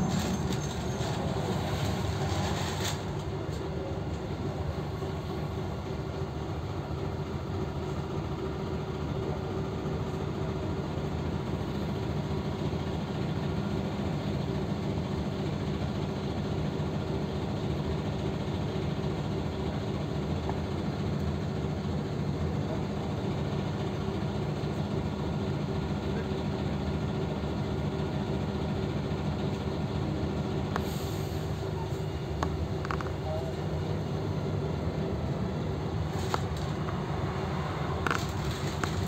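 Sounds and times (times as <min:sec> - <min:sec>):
bus engine idling: 0:00.0 - 0:39.0.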